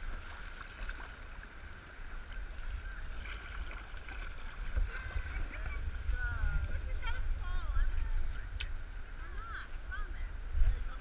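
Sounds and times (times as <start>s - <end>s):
water lapping and splashing: 0.0s - 11.0s
wind buffeting microphone: 0.0s - 11.0s.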